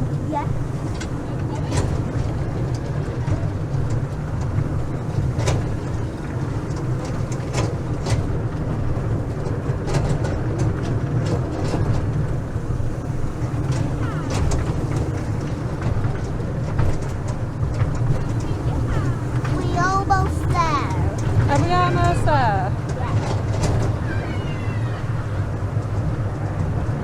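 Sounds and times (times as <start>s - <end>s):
ride-on train rumbling: 0.0s - 27.0s.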